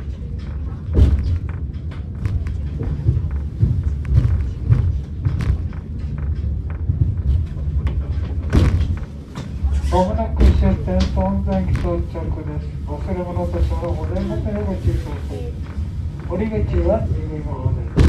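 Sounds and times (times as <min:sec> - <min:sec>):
cable car knocks and clatters: 0:00.0 - 0:18.0
cable car rumble on track: 0:00.0 - 0:18.0.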